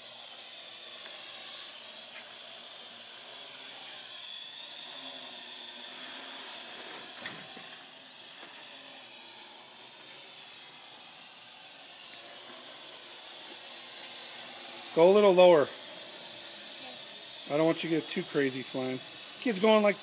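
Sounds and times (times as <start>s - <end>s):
drone propellers whirring: 0.0s - 20.0s.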